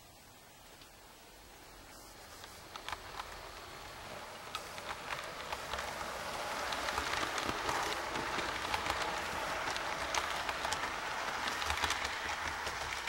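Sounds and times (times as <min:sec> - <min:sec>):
model train rattling past: 0:02.2 - 0:13.0.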